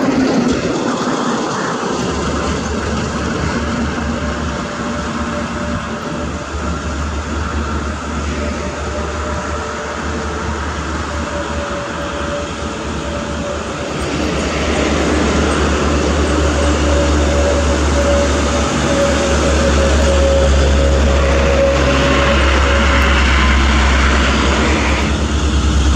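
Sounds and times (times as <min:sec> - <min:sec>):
road noise: 0:00.0 - 0:25.9
steady whine: 0:00.0 - 0:25.9
truck engine drone: 0:00.0 - 0:25.9.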